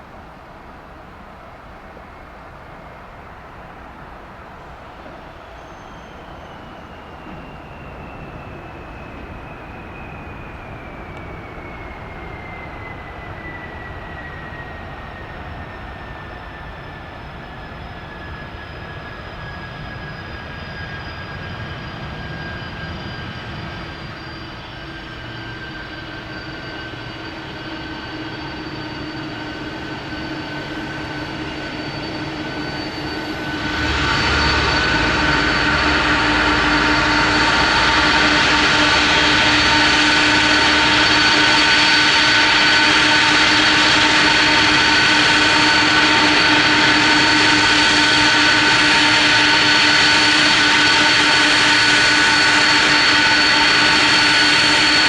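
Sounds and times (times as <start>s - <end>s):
jet engines on landing approach: 0.0s - 55.0s.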